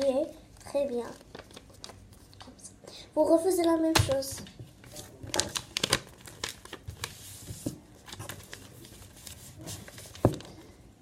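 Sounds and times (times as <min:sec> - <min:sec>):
paper being folded and crinkled: 0:00.0 - 0:02.6, 0:03.4 - 0:10.8.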